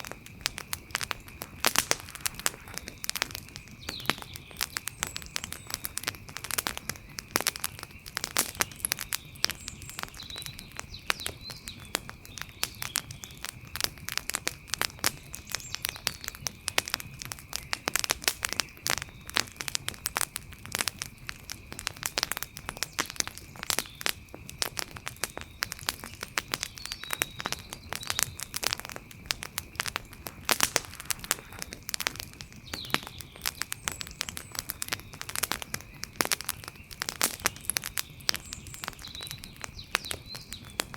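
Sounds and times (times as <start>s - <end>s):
wood fire pops and snaps: 0.0s - 40.9s.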